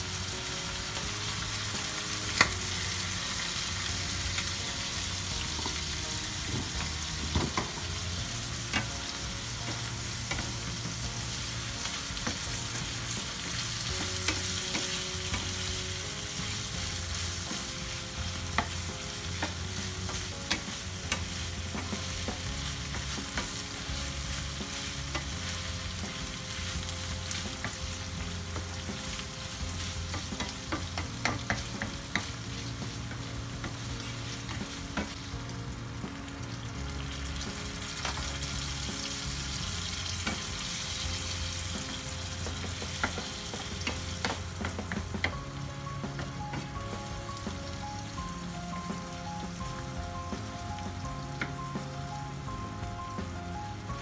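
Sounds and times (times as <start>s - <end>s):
liver sizzling in pan: 0.0s - 54.0s.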